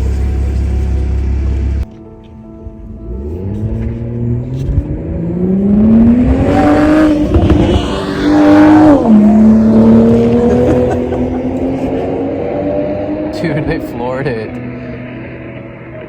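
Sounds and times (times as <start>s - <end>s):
sports car engine accelerating: 2.9s - 16.0s.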